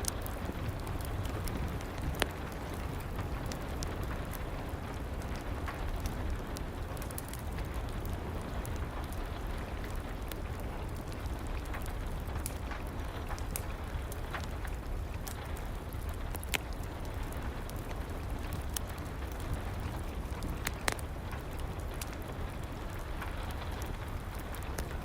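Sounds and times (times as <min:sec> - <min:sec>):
steady rain falling: 0:00.0 - 0:25.0
wood fire crackling: 0:00.0 - 0:25.0.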